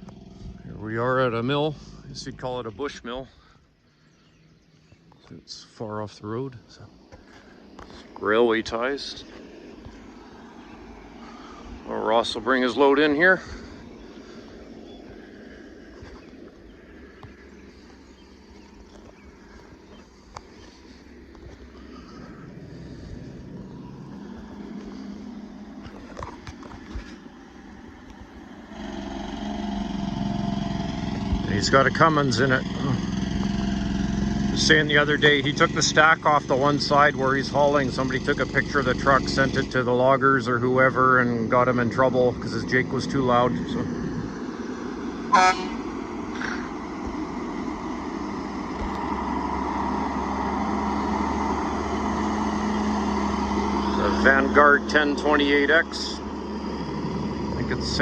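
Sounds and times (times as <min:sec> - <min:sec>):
truck diesel engine: 0:00.0 - 0:58.0.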